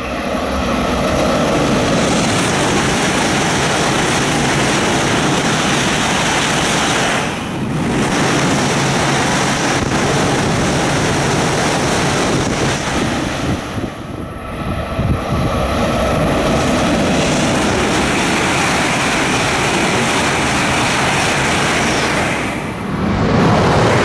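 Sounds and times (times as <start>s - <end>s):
high-speed train rushing past: 0.0s - 24.0s.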